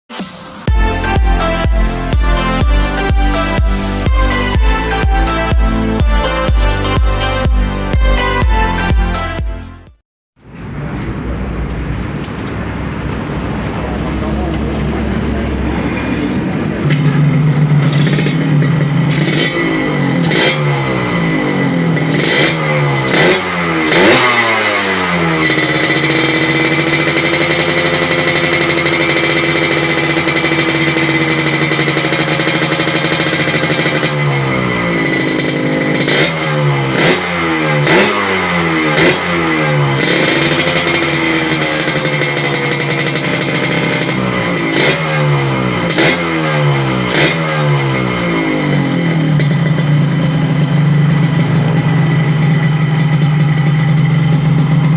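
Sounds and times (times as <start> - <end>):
two-stroke motorcycle revving: 0.1 - 10.0, 11.0 - 54.9.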